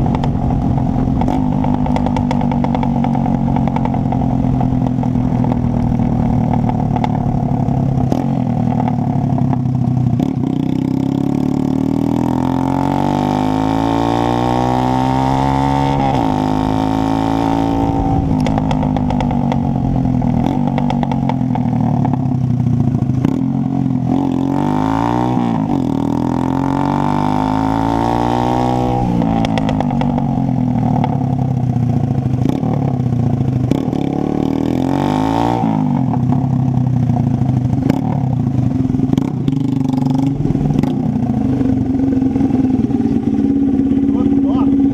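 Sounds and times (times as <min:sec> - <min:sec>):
loud raspy motorcycle engine revving: 0:00.0 - 0:44.9.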